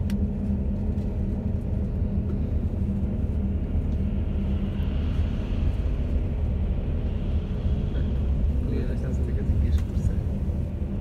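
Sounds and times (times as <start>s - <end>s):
vehicle cabin rumble: 0.0s - 11.0s.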